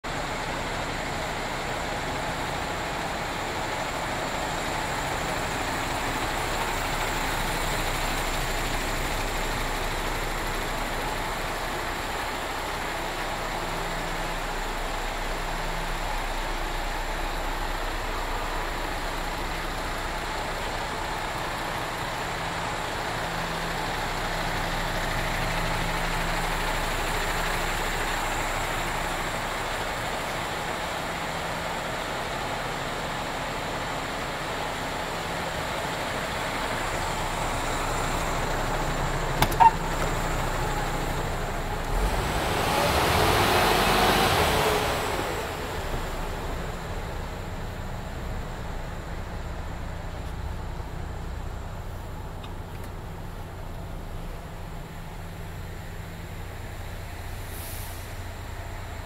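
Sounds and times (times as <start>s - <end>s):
truck diesel engine idling: 0.0s - 59.0s.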